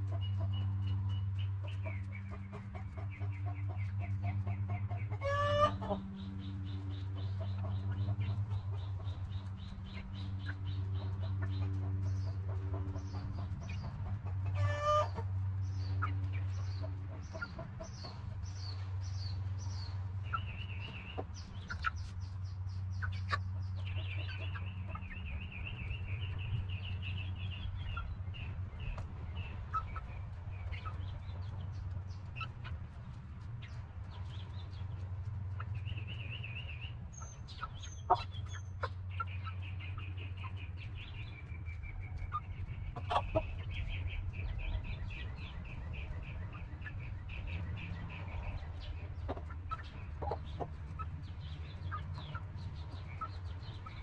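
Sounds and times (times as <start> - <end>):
hens clucking: 0.0 - 54.0
wild birds chirping: 0.0 - 54.0.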